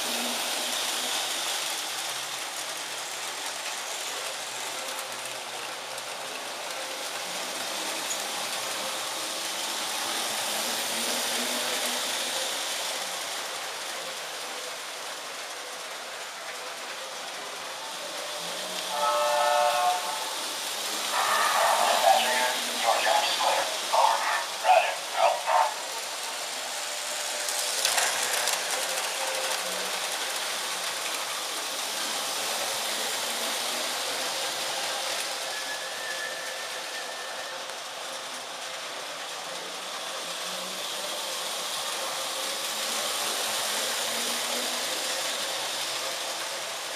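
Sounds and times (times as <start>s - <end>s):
model trains rolling on metal track: 0.0s - 46.9s.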